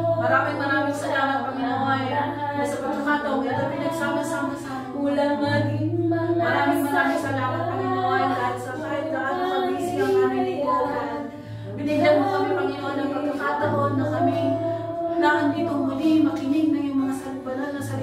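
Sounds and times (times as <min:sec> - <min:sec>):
acoustic guitar: 0:00.0 - 0:18.0
women singing worship song: 0:00.0 - 0:18.0.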